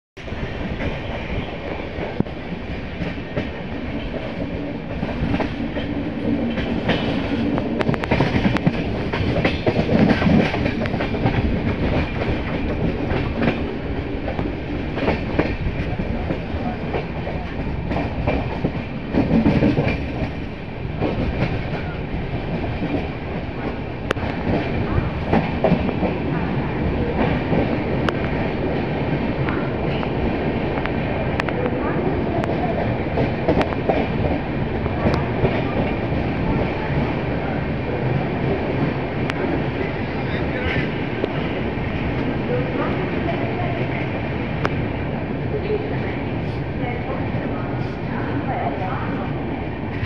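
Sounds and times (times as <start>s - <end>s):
clickety-clack over rail joints: 0.2s - 50.0s
train wheels rumbling on rail: 0.2s - 50.0s.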